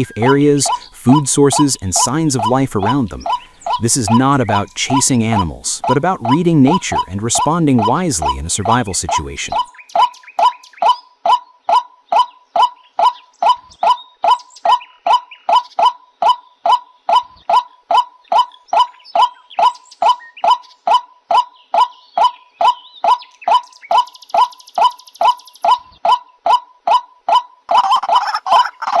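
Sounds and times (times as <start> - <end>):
waterhen harsh calls: 0.0 - 29.0.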